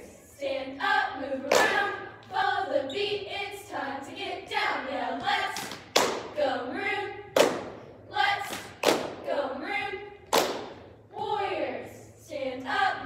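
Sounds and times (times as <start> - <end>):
girls chanting a cheer: 0.0 - 13.0.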